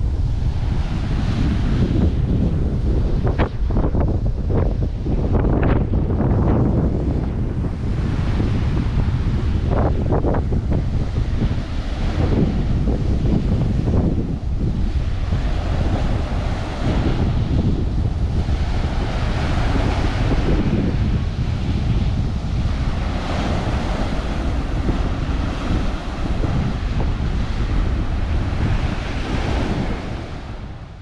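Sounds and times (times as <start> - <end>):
ocean surf on sandy beach: 0.0 - 31.0
wind buffeting microphone: 0.0 - 31.0.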